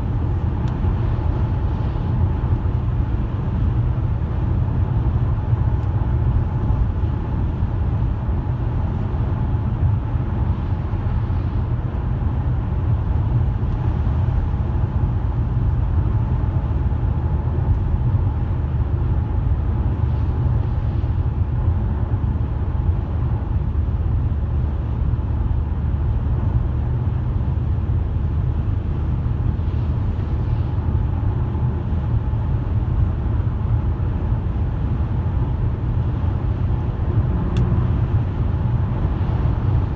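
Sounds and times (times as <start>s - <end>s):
car engine rumble: 0.0s - 39.9s
tyres on the road: 0.0s - 39.9s.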